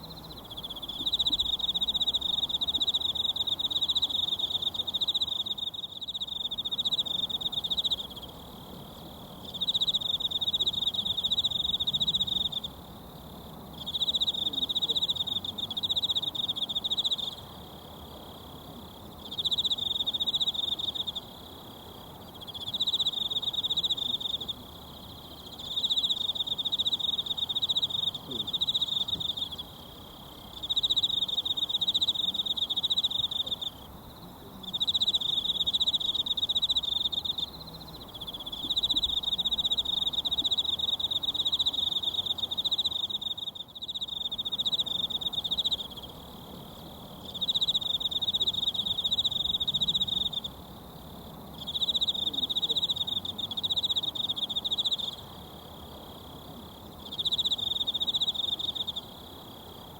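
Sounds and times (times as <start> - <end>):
insect trilling: 0.0 - 8.5, 19.2 - 59.9.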